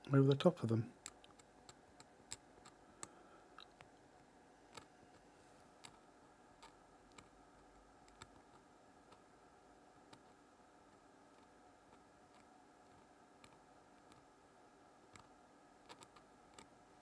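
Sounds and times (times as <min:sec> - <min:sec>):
quiet steady hum: 0:00.0 - 0:17.0.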